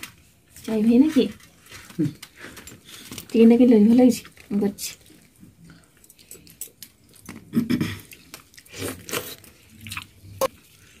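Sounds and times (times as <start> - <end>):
people chewing and eating: 0.0 - 11.0.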